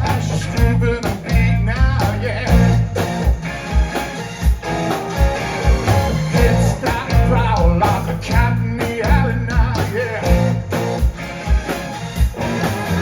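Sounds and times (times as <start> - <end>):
drum kit beat: 0.0 - 13.0
electric guitar lead line: 0.0 - 13.0
rock band playing live: 0.0 - 13.0.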